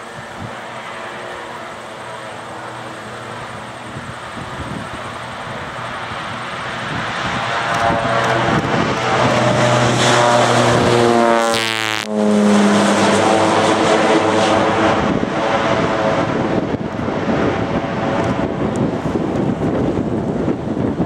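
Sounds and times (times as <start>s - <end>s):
propeller plane engine drone: 0.0s - 21.0s.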